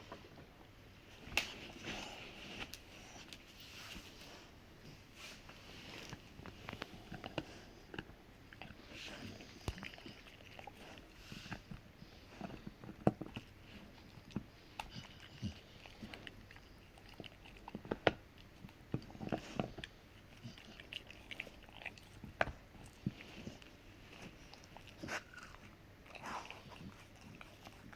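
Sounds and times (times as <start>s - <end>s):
dog gnawing and crunching: 1.1s - 27.9s.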